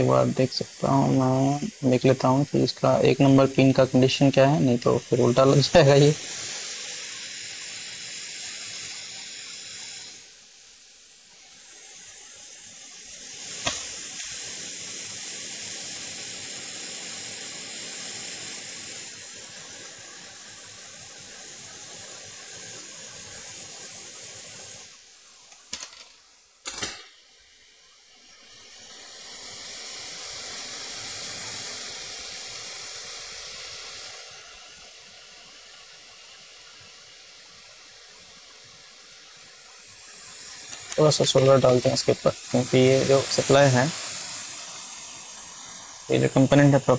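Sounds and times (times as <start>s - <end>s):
hot air blower hissing: 0.0s - 46.9s.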